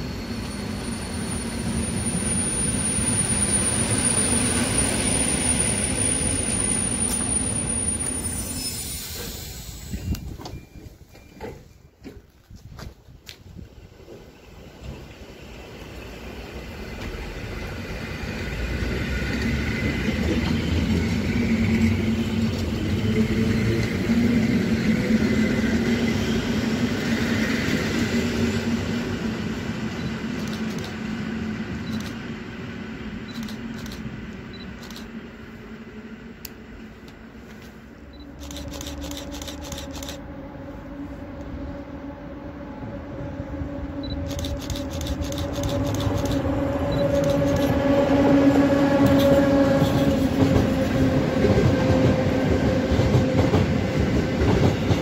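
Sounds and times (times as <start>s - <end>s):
electric train pulling away: 0.0s - 11.8s, 13.9s - 36.9s, 38.1s - 55.0s
freight train approaching: 0.0s - 55.0s
wheels rumbling on rails: 0.0s - 55.0s.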